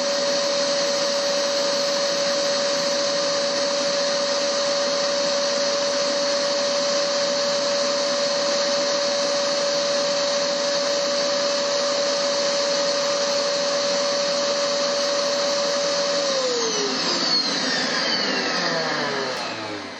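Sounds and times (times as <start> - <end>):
vacuum cleaner whining: 0.0 - 19.9.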